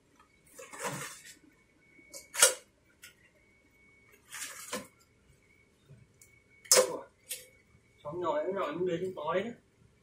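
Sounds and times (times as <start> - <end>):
faint high-pitched tone: 0.0 - 10.0.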